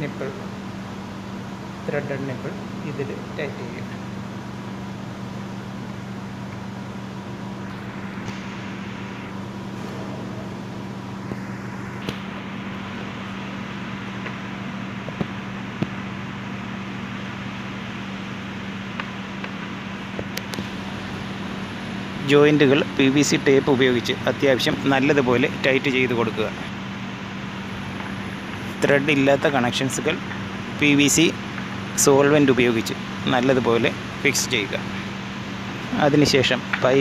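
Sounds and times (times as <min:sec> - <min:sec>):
machine hum with hiss: 0:00.0 - 0:37.0.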